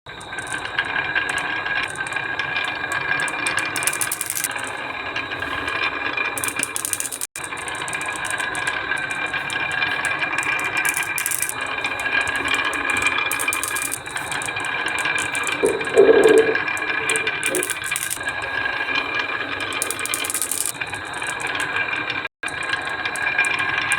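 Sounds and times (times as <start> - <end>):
marbles clattering down wooden run: 0.1 - 23.9.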